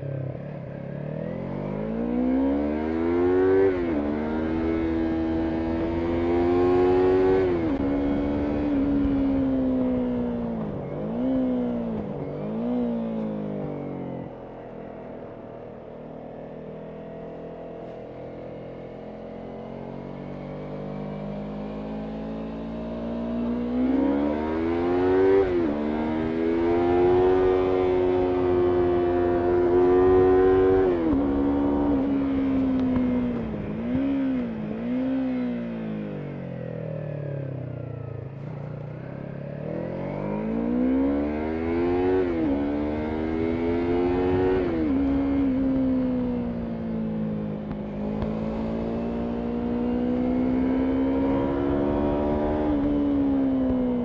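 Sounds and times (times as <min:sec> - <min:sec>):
motorcycle engine revving: 0:01.1 - 0:14.4, 0:17.3 - 0:54.0.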